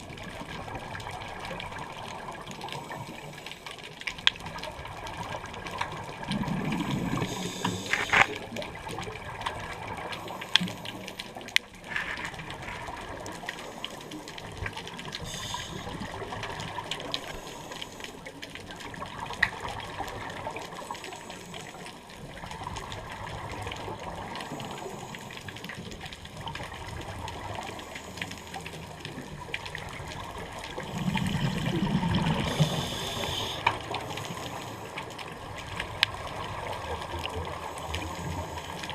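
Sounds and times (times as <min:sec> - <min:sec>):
regulator bubbles gurgling: 0:00.0 - 0:38.9
steady underwater hiss: 0:00.0 - 0:38.9.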